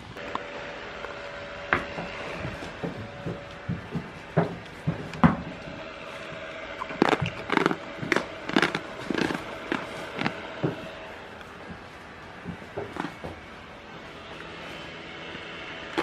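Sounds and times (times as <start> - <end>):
goats nibbling and scuffing: 1.1 - 16.0.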